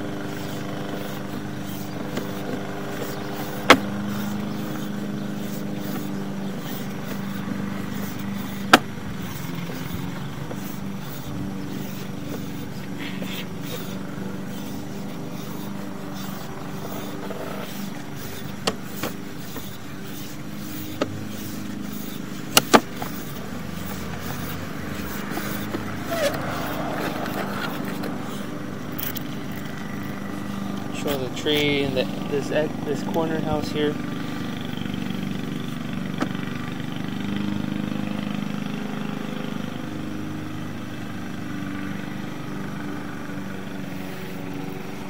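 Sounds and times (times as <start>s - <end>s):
low motor hum: 0.0s - 45.0s.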